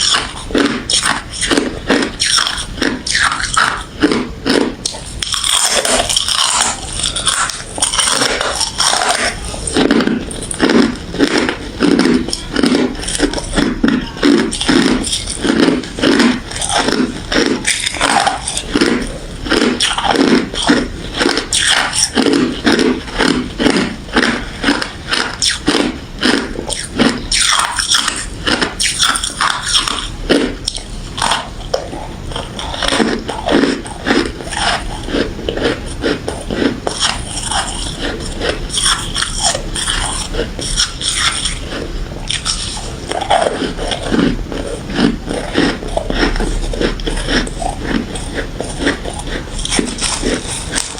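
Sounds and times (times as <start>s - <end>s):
chewing crunchy ice: 0.0s - 50.9s.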